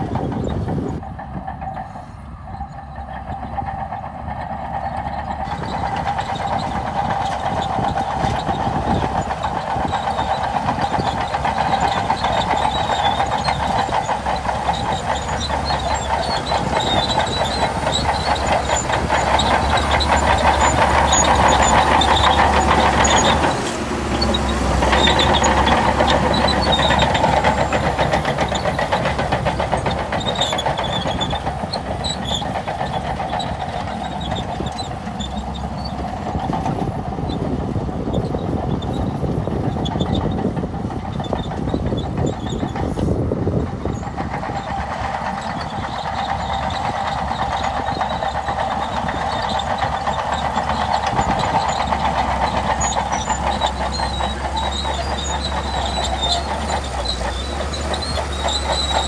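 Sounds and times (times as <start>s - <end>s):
bulldozer diesel engine under load: 0.0s - 59.0s
steel tracks clattering: 0.0s - 59.0s.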